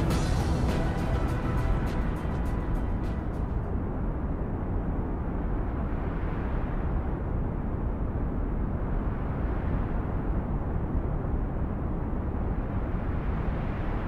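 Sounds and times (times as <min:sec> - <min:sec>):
steady low rumbling: 0:00.0 - 0:14.0.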